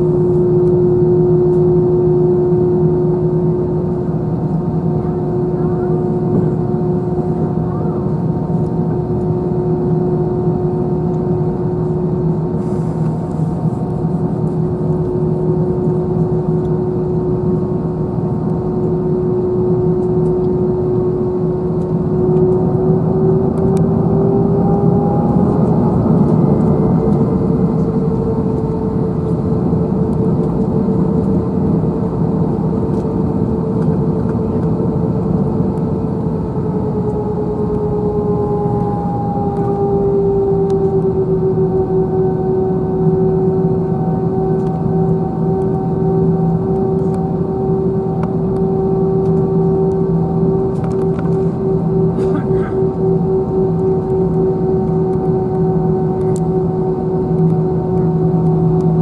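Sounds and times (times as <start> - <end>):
jet engines humming: 0.0 - 59.0.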